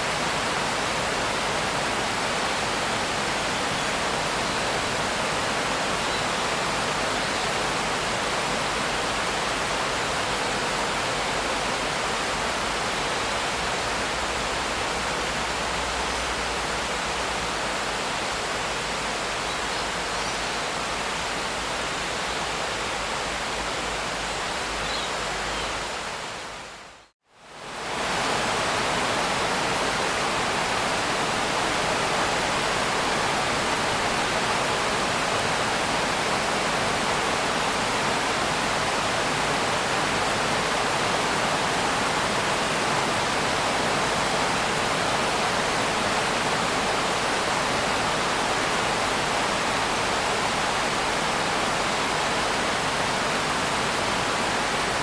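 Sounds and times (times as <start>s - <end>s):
dense rain hiss: 0.0s - 55.0s.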